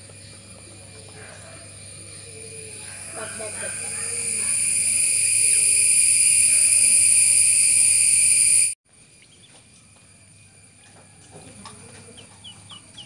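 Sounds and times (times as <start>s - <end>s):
high-pitched insect trill: 0.0s - 11.2s
faint insect trill: 0.0s - 13.0s.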